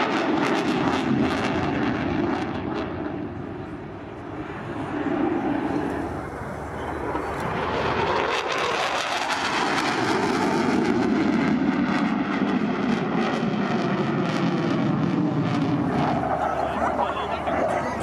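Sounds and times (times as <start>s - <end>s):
fighter jet rumble: 0.0s - 18.0s.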